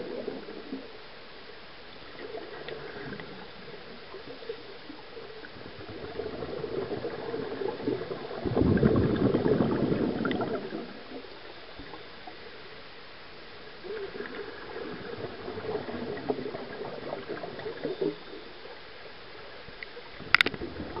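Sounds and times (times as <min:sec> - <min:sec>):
underwater bubbles rushing: 0:00.0 - 0:01.2, 0:01.8 - 0:12.8, 0:13.6 - 0:21.0
steady underwater hiss: 0:00.0 - 0:21.0.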